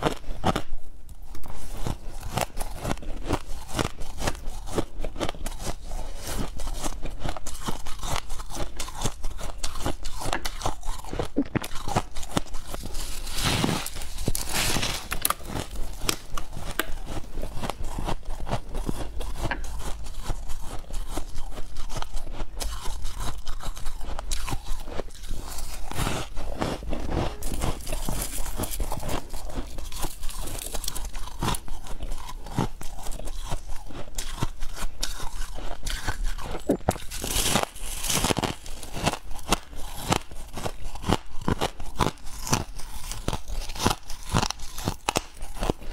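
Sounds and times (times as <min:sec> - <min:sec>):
chewing crunchy frost: 0:00.0 - 0:45.9.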